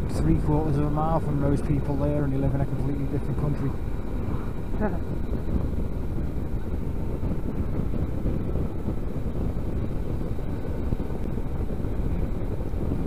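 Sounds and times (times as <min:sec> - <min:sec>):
motorcycle engine rumble: 0:00.0 - 0:13.0
wind noise on microphone: 0:00.0 - 0:13.0.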